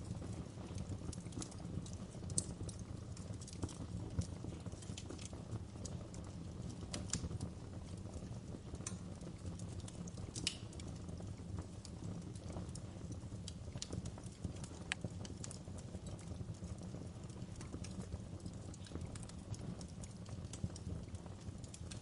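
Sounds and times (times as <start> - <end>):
fire crackling in a fireplace: 0.0 - 22.0.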